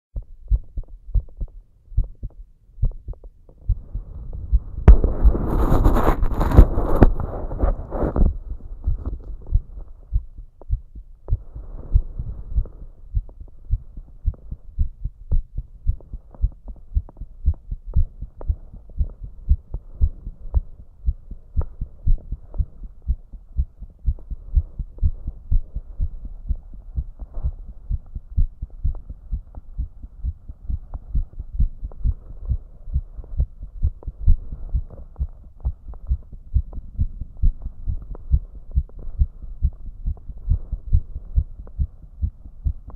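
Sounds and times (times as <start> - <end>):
heart beating fast: 0.2 - 42.9.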